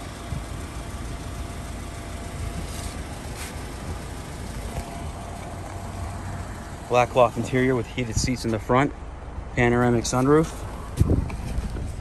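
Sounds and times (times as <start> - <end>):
car engine idling: 0.0 - 12.0
outdoor background noise: 0.0 - 12.0.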